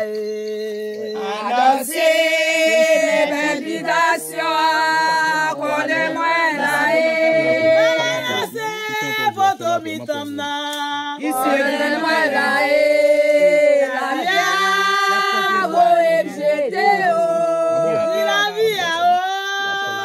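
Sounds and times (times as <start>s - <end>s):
group singing unaccompanied: 0.0s - 20.0s.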